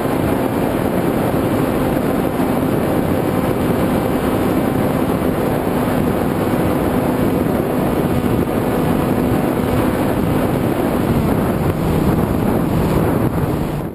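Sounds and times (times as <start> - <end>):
drone motors humming: 0.0 - 13.9
wind noise: 0.0 - 13.9.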